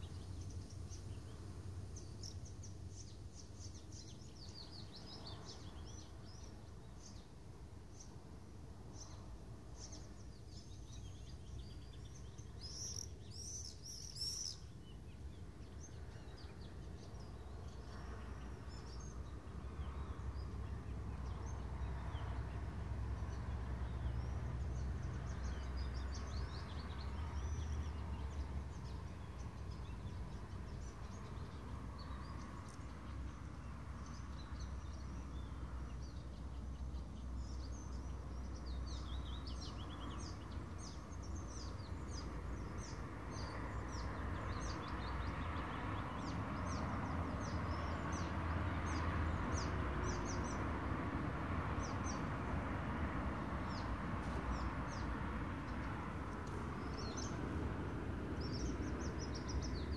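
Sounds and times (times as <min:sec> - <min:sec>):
distant city rumble: 0:00.0 - 0:59.9
songbirds chirping and trilling: 0:00.0 - 0:59.9.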